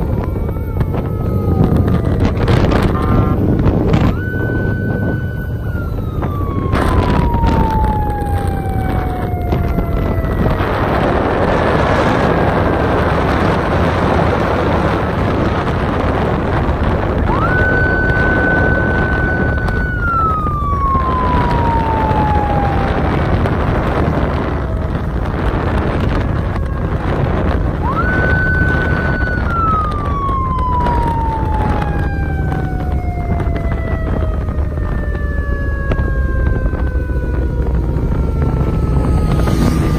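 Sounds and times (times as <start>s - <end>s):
siren rising and falling: 0.0s - 39.9s
wind and motorbike road noise: 0.0s - 39.9s.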